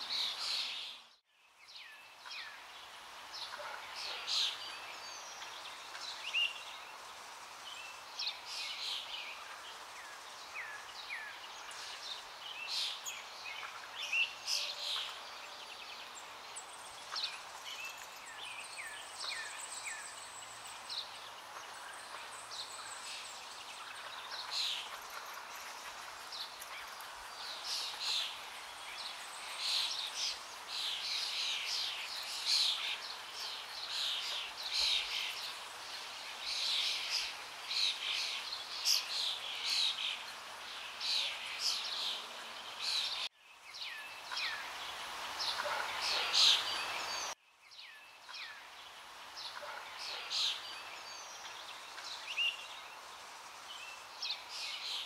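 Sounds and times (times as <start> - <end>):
small birds chirping: 0.0 - 55.0
steady background hiss: 0.0 - 55.0.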